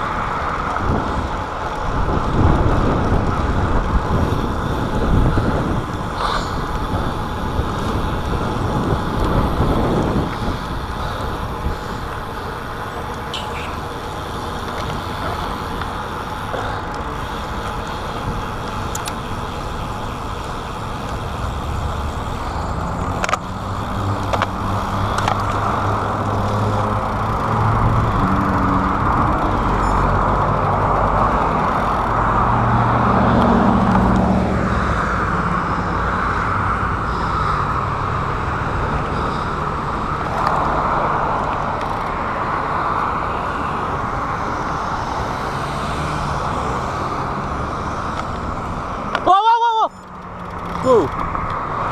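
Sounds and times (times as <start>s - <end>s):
vehicle passing close: 0.0s - 49.3s
wind rushing over camera: 0.0s - 49.3s
motor traffic passing: 0.0s - 51.9s.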